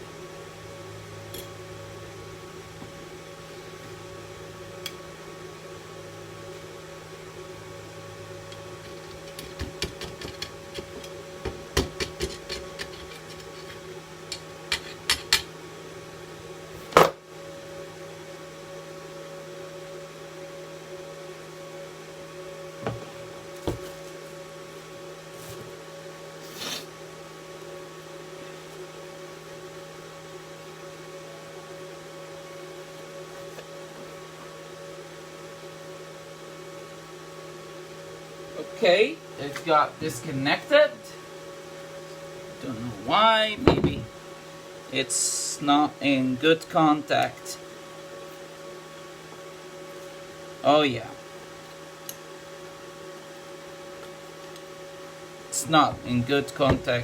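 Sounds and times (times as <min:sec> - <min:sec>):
welding machine electrical hum: 0:00.0 - 0:57.0.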